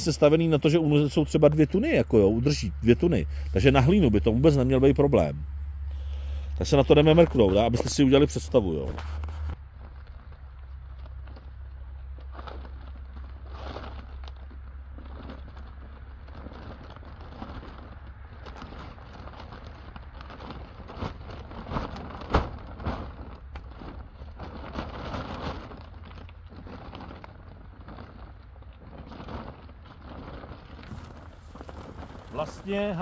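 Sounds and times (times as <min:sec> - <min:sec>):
steady low rumble: 0:00.0 - 0:33.0
woven bags rustling and crinkling: 0:00.0 - 0:33.0.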